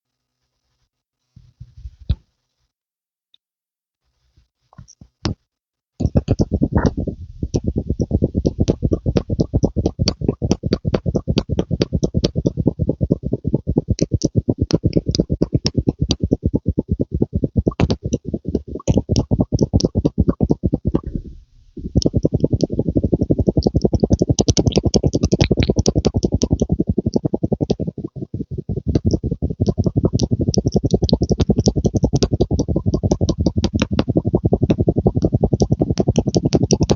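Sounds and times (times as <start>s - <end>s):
rapid pumping strokes: 6.0s - 36.9s.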